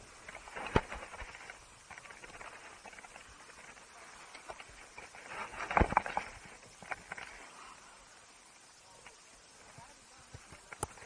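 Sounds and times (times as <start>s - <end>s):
ski gear clicking on snow: 0.0s - 7.6s, 9.1s - 11.0s
faint hiss: 0.0s - 11.0s.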